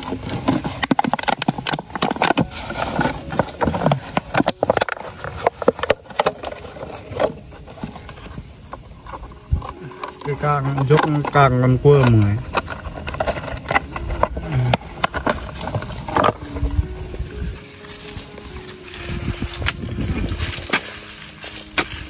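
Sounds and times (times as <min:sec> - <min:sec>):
hands scraping soil and leaves: 0:00.0 - 0:22.0
plastic bottle crackling: 0:00.0 - 0:22.0.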